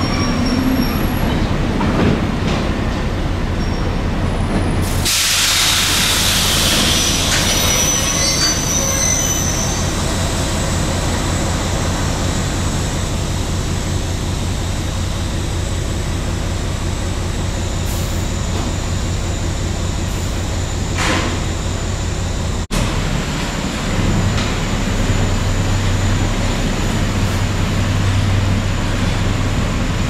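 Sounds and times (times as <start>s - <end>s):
diesel locomotive engine humming: 0.0s - 30.0s.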